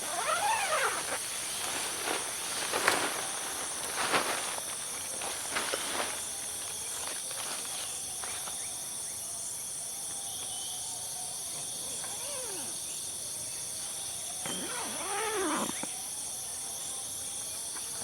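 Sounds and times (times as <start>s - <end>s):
crickets and night insects: 0.0s - 18.0s.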